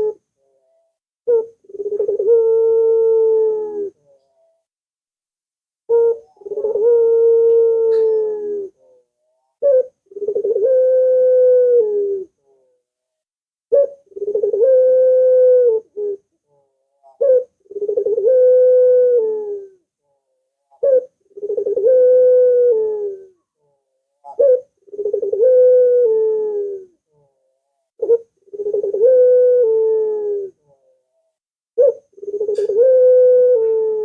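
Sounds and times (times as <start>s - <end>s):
dove cooing: 0.0s - 4.6s, 5.9s - 12.7s, 13.7s - 19.8s, 20.7s - 23.5s, 24.2s - 27.4s, 28.0s - 31.0s, 31.8s - 34.0s.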